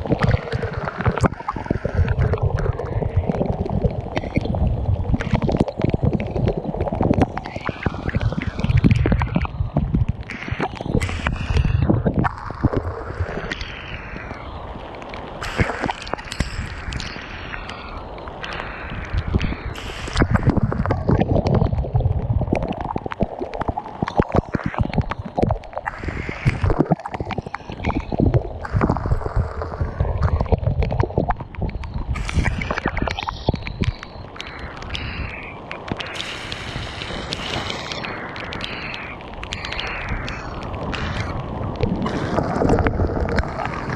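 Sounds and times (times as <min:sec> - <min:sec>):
gusty wind buffeting microphone: 0:00.0 - 0:14.8, 0:18.3 - 0:23.1, 0:24.4 - 0:43.9
small ticks: 0:05.2 - 0:21.5, 0:22.6 - 0:43.9.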